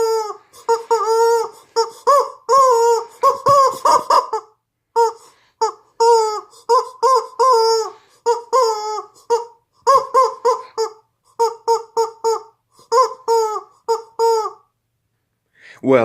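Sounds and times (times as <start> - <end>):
rubber chicken squeaking: 0.0 - 14.7.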